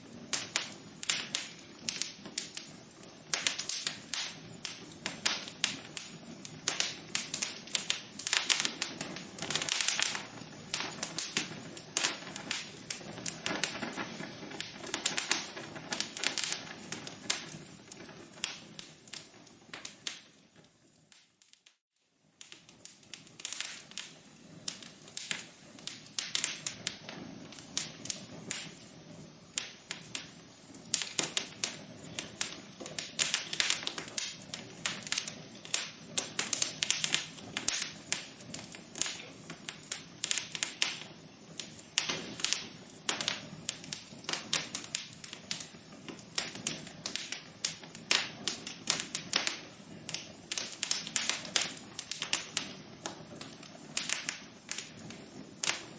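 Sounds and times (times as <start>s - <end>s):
soft fire hiss: 0.0s - 55.9s
wood fire crackling and popping: 0.0s - 55.9s.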